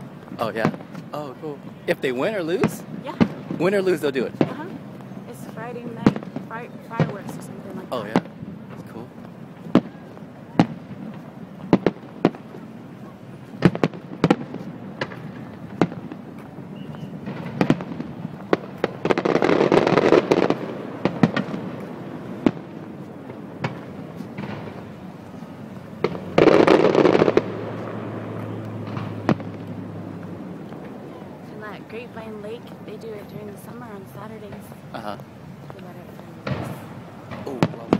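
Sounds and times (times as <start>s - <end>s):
rapid fireworks crackling: 0.0s - 37.9s
fireworks bangs and pops: 0.1s - 37.9s.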